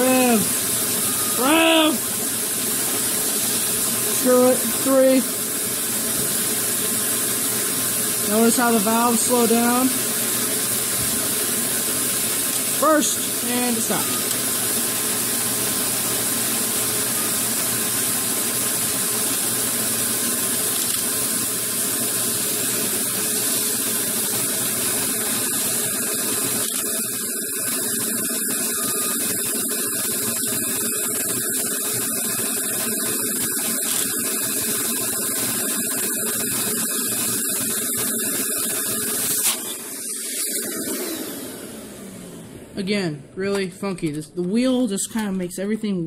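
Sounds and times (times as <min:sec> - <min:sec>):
vacuum cleaner motor rushing: 0:00.0 - 0:42.8.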